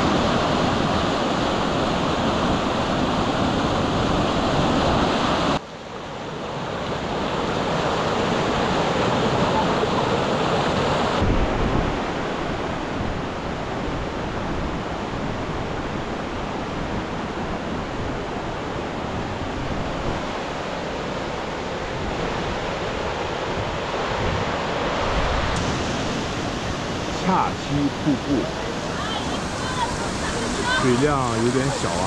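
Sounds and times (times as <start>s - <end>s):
mountain stream over rocks: 0.0s - 32.0s.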